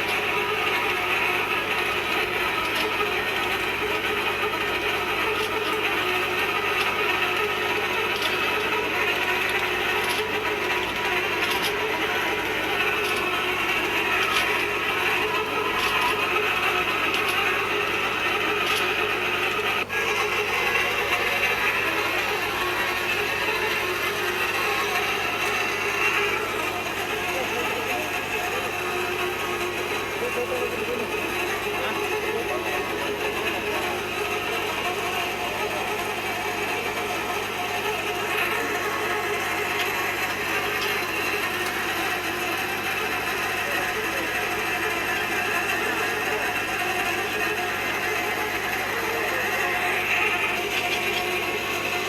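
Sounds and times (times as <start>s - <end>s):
cutter grinding into pipe: 0.0s - 52.0s.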